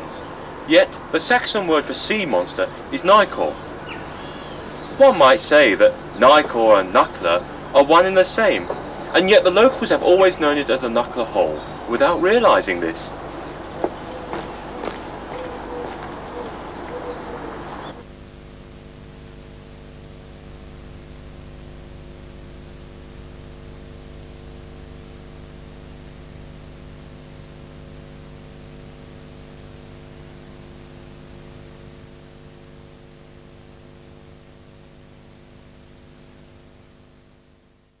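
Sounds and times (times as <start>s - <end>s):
electrical hum: 0.0s - 38.0s
outdoor noise: 0.0s - 38.0s.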